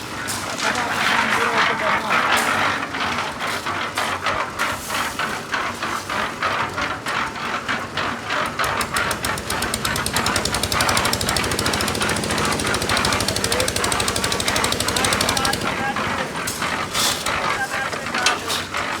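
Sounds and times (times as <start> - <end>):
concrete mixer engine knocking: 0.2 - 19.0.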